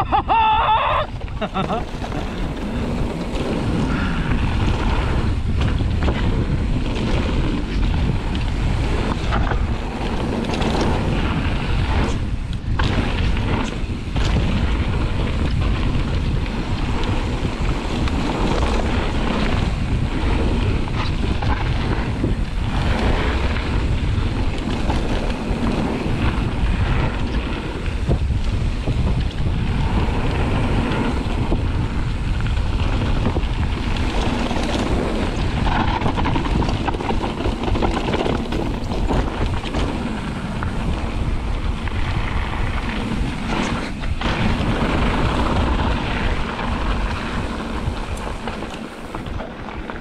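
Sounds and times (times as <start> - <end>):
bike tyres rolling on gravel: 0.0 - 50.0
wind buffeting microphone: 0.0 - 50.0
bike clattering over bumps: 1.1 - 50.0.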